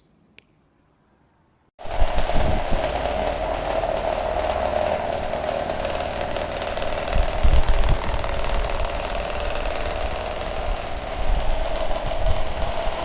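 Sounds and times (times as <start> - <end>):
electric fan running: 1.8 - 13.0
low rumbling: 1.8 - 13.0.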